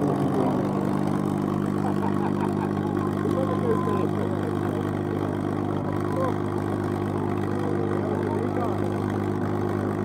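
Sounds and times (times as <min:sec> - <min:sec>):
aircraft engine idling: 0:00.0 - 0:10.0.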